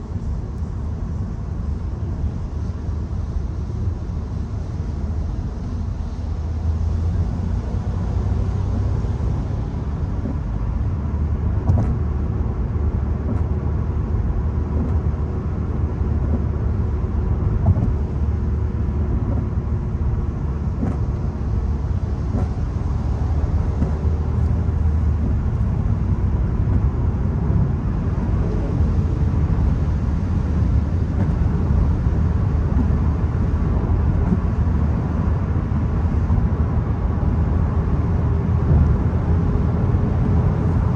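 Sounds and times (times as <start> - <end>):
car engine rumble: 0.0 - 40.9.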